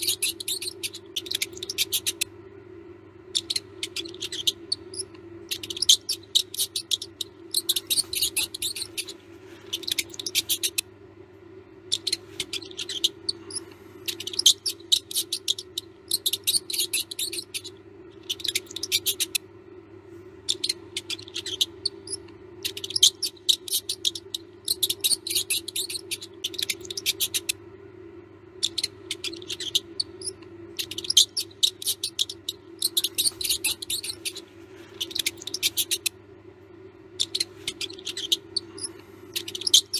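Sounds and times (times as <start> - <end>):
mouse squeaking: 0.0 - 2.3, 3.3 - 10.9, 11.8 - 19.4, 20.4 - 27.6, 28.6 - 36.2, 37.1 - 39.9
steady low hum: 0.0 - 39.9.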